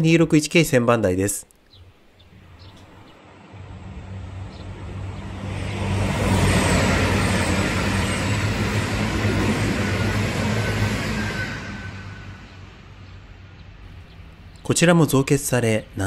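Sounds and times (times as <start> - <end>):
diesel train engine hum: 2.3 - 16.0
train rolling noise: 2.4 - 15.7.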